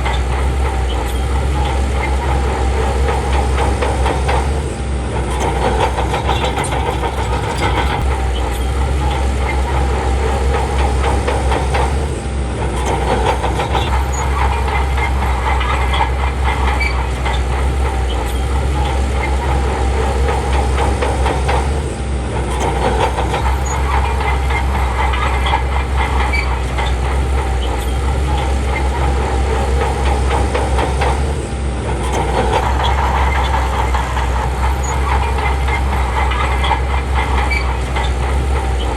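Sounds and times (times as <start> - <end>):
bulldozer diesel engine: 0.0 - 38.9
steel tracks clanking: 0.0 - 38.9.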